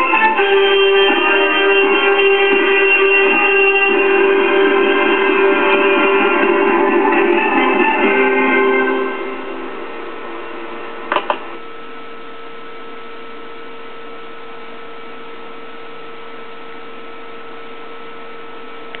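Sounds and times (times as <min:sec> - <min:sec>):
electrical hum and hiss: 0:00.0 - 0:19.0.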